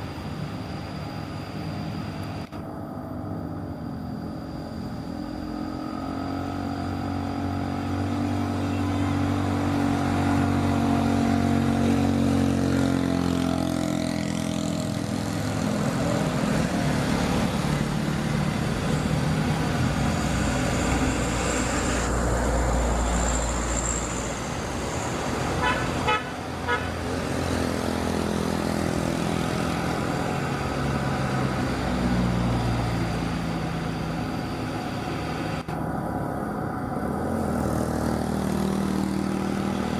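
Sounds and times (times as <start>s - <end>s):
model excavator electric motors whining: 0.0s - 39.9s.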